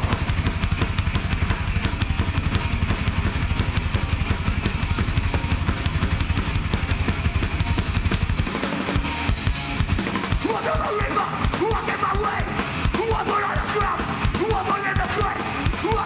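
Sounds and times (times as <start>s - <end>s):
hardcore band playing live: 0.0s - 16.0s
rapid driving drumming: 0.0s - 16.0s.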